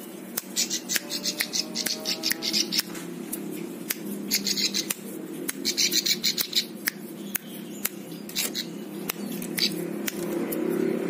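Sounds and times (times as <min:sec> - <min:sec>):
steady low hum: 0:00.0 - 0:11.0
bird clicking and chattering calls: 0:00.1 - 0:10.7.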